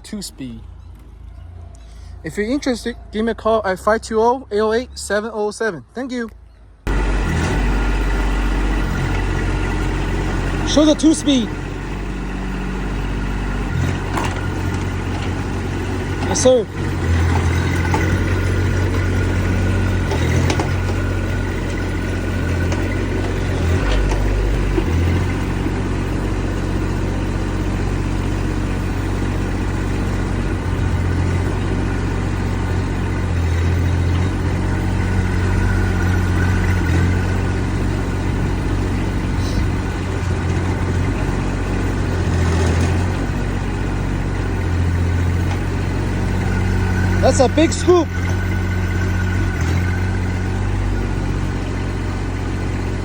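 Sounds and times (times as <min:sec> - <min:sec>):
diesel engine running: 0:00.0 - 0:05.6, 0:06.7 - 0:53.0.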